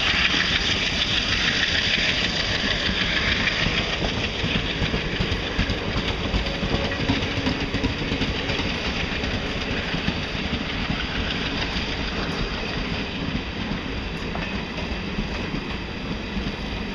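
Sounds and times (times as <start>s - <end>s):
train rumbling on rails: 0.0s - 16.9s.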